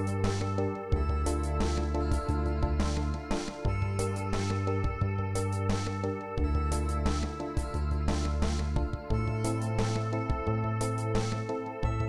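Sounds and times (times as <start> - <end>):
background music with bass and chords: 0.0 - 12.0.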